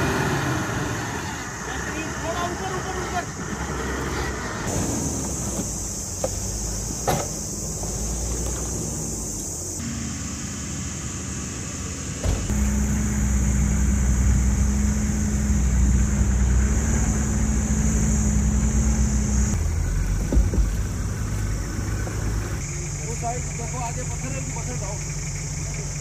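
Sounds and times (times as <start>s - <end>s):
jeep engine running: 0.0s - 26.0s.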